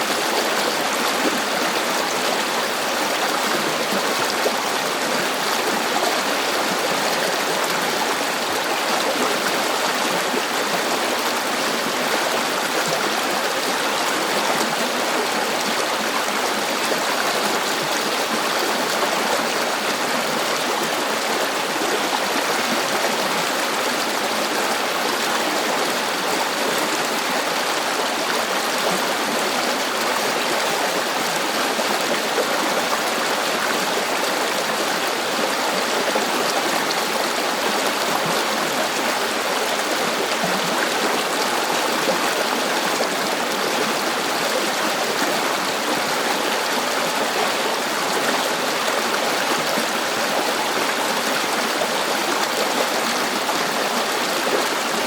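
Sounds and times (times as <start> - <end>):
river water babbling over rocks: 0.0 - 55.0.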